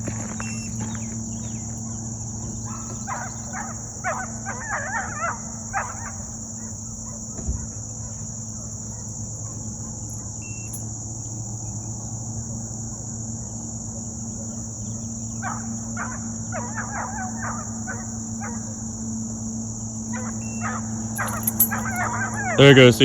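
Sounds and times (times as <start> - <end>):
distant dogs barking: 0.0 - 13.2, 13.9 - 23.0
high insect trill: 0.0 - 23.0.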